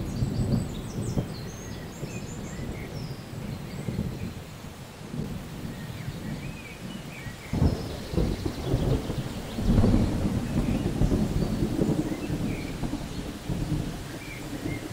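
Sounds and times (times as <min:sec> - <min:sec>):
deep rumble of thunder: 0:00.0 - 0:14.9.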